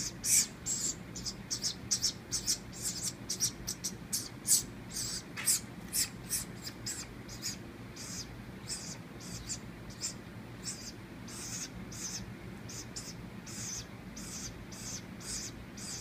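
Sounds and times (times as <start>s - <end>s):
baby bird begging calls: 0.0s - 16.0s.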